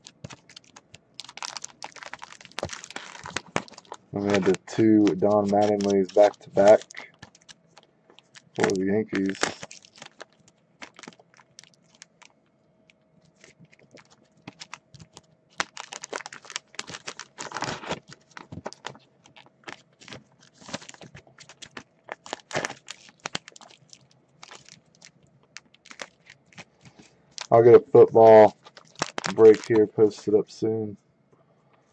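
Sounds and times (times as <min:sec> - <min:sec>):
plastic sleeves crinkling: 0:00.0 - 0:30.3.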